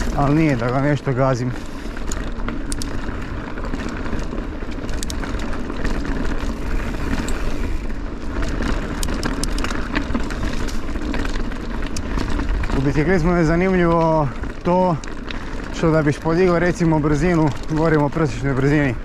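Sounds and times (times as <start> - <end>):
bike clicks and rattles: 0.0 - 19.0
bike tyre noise: 0.0 - 19.0.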